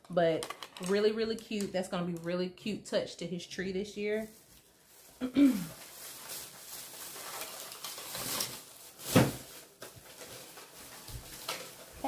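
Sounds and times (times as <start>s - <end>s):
decorations rustling and clattering: 0.0s - 2.5s, 3.6s - 12.0s.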